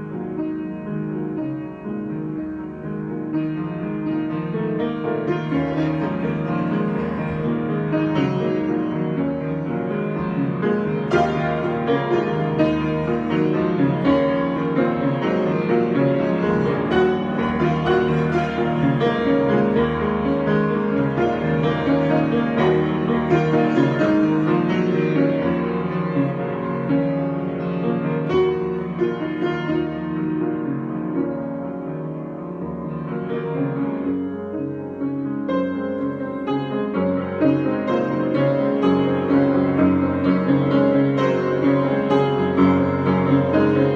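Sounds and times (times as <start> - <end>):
solo piano improvising: 0.0 - 43.9.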